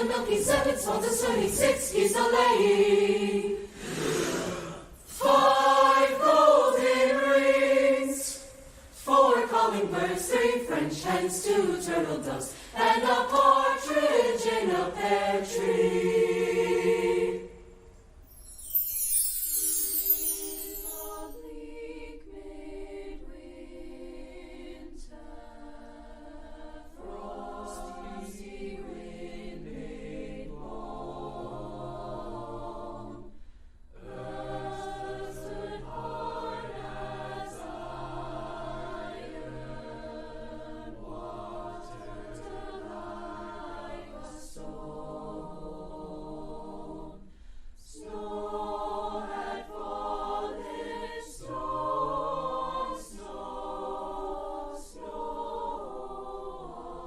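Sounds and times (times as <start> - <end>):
choir singing sustained chords: 0.0 - 57.0.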